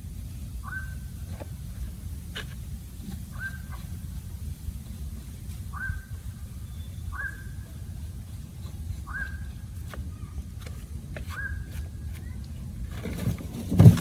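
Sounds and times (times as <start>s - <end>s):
bird calling: 0.6s - 4.2s, 5.3s - 12.9s.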